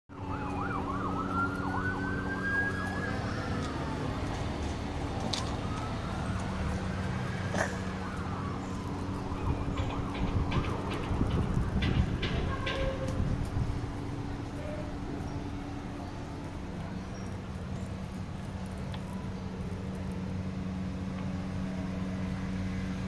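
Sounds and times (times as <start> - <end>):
emergency vehicle siren: 0.1 - 23.0.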